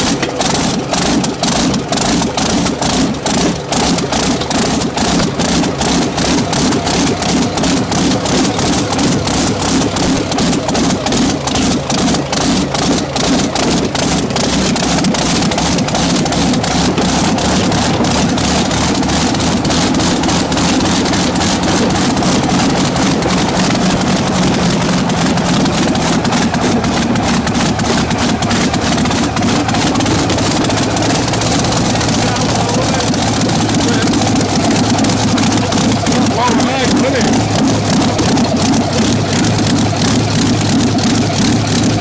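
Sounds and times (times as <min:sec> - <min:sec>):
aircraft engine running loudly: 0:00.0 - 0:42.0.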